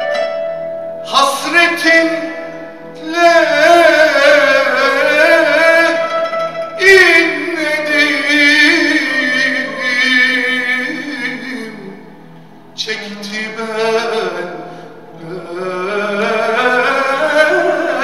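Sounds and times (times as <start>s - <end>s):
ensemble playing slow string melody: 0.0s - 18.0s.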